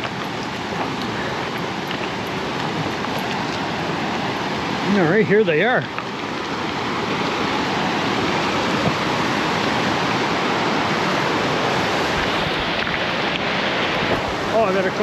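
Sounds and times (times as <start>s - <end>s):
waterfall pouring: 0.0s - 15.0s.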